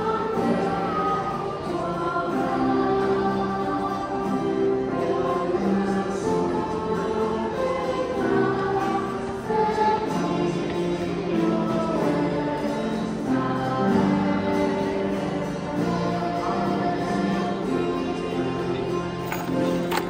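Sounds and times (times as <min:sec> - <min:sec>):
children's choir singing a hymn: 0:00.0 - 0:20.0
grand piano: 0:00.0 - 0:20.0.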